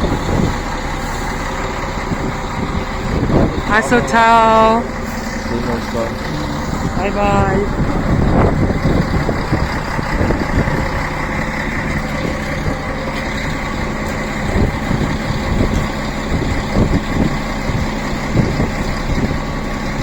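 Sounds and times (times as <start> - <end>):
low hum of train: 0.0 - 20.0
wind buffeting microphone: 0.0 - 20.0.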